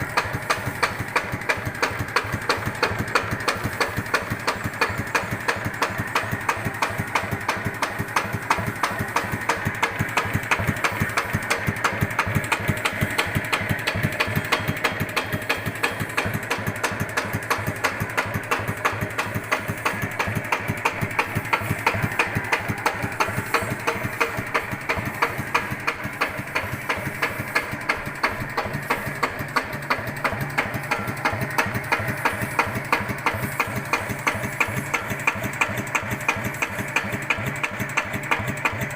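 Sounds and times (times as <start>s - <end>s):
diesel engine idling with knock: 0.0s - 38.9s.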